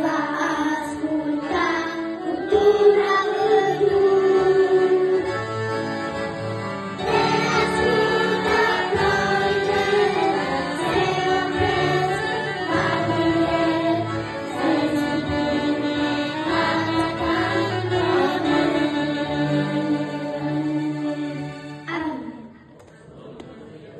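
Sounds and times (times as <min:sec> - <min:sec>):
children singing: 0:00.0 - 0:05.3, 0:07.0 - 0:21.6.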